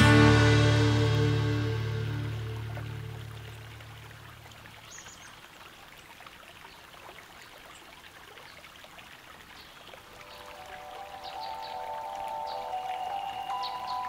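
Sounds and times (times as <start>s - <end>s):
river water trickling and lapping: 2.1s - 14.0s
light water splashes: 2.2s - 14.0s.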